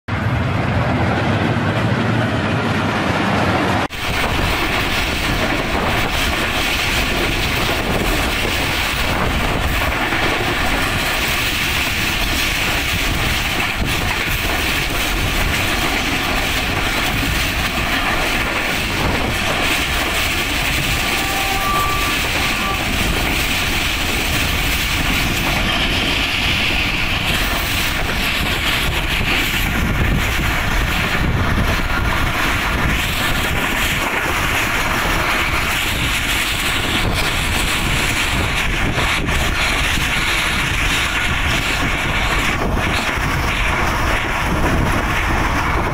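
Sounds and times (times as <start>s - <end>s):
rushing air: 0.1s - 45.9s
train wheels rumbling on rails: 0.1s - 45.9s.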